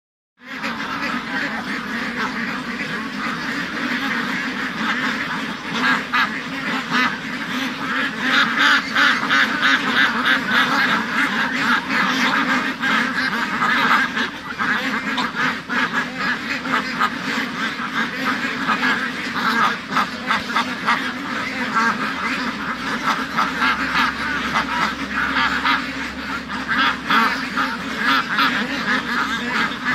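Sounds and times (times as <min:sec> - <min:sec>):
flock of ducks quacking: 0:00.4 - 0:29.9.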